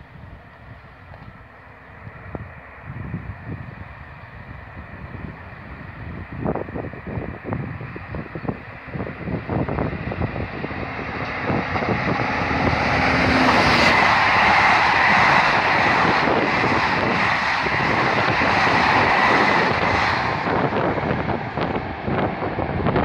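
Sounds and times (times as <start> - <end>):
passenger train passing: 0.0 - 23.0.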